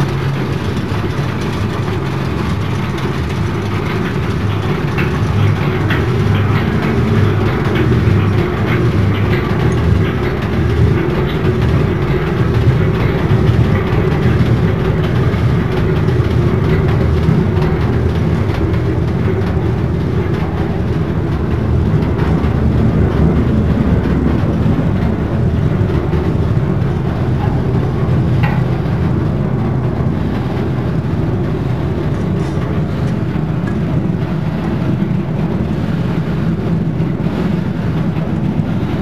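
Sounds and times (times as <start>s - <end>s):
screw conveyor droning and rattling: 0.0s - 39.0s.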